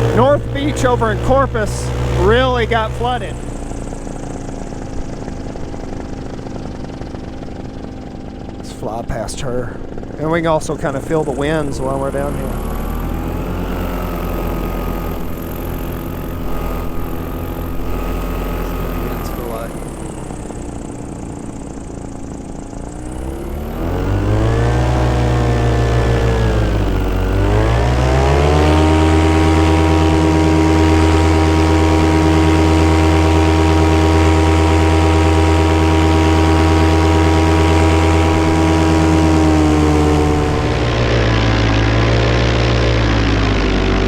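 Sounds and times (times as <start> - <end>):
paramotor engine and propeller: 0.0 - 44.0.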